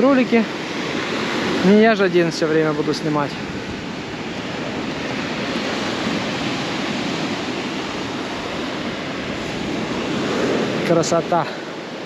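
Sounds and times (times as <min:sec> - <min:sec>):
sea surf on pebble beach: 0:00.0 - 0:12.0.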